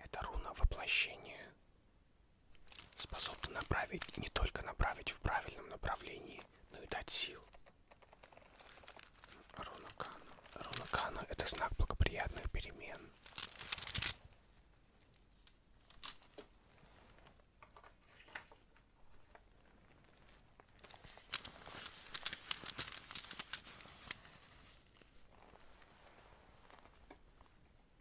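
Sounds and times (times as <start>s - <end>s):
crinkly handling sounds: 2.5s - 28.0s.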